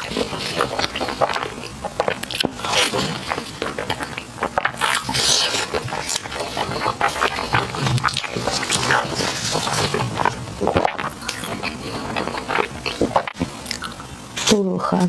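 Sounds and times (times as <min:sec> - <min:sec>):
wet chewing and lip-smacking: 0:00.0 - 0:14.1.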